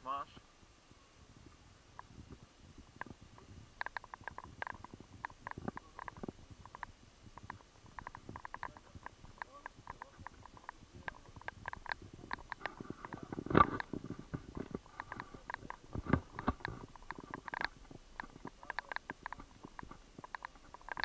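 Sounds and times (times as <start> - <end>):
gear clicking and rattling: 3.0 - 21.0.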